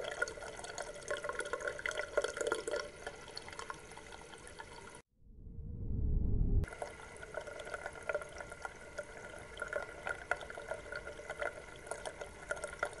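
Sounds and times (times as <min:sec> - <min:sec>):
water trickling and bubbling: 0:00.0 - 0:05.0, 0:06.6 - 0:13.0.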